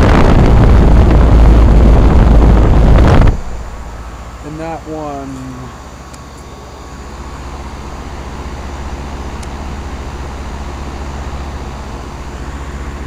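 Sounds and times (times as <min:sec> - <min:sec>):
compressor hum: 0:00.0 - 0:13.0
rush of air from fans: 0:00.0 - 0:13.0.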